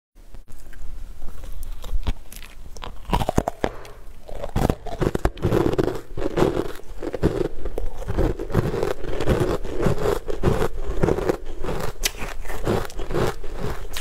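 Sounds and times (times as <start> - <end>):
biting and chewing: 0.5 - 14.0
crackling mouth clicks: 0.5 - 14.0.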